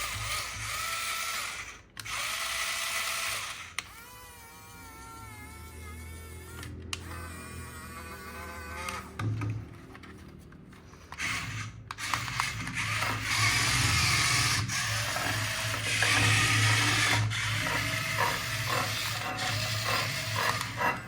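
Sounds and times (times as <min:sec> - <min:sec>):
toy motor whirring: 0:00.0 - 0:09.2, 0:11.0 - 0:21.0.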